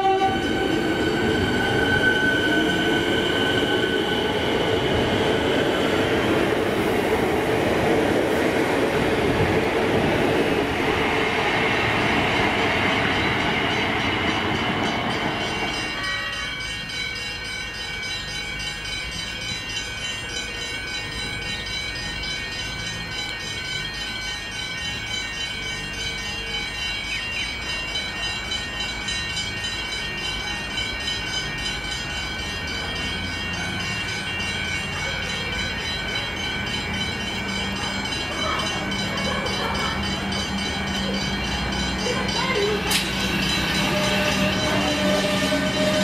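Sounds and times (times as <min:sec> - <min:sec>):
electric train whining: 0:00.0 - 0:46.0
train low rumble: 0:00.0 - 0:46.0.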